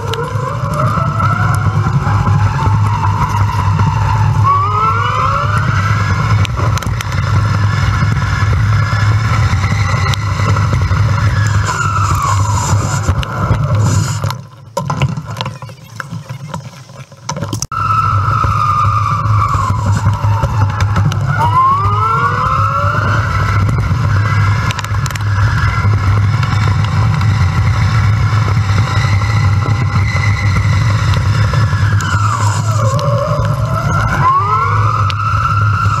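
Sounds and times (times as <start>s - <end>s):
electric motor whine: 0.0s - 14.3s, 18.2s - 36.0s
wind rumbling on microphone: 0.0s - 36.0s.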